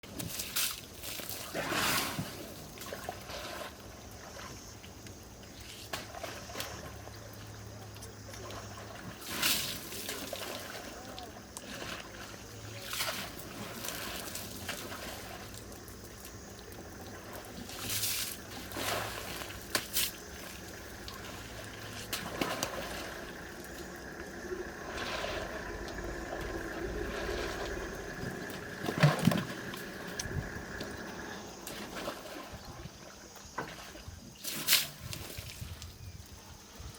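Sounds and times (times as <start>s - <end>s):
water trickling and sloshing: 0.0s - 36.9s
elephant splashing in water: 0.1s - 4.8s, 5.8s - 35.8s.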